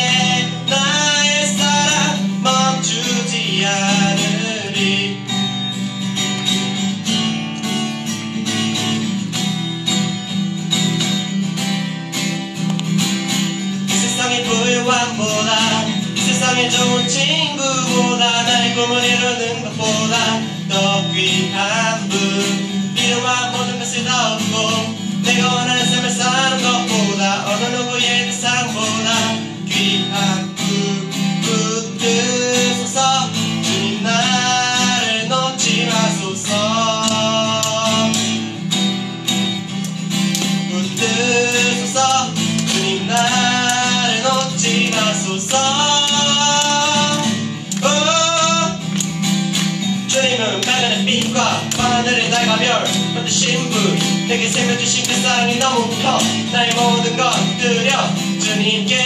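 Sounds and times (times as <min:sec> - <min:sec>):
man singing: 0:00.0 - 0:05.5, 0:13.6 - 0:38.7, 0:40.3 - 0:59.0
acoustic guitar strumming: 0:00.0 - 0:59.0.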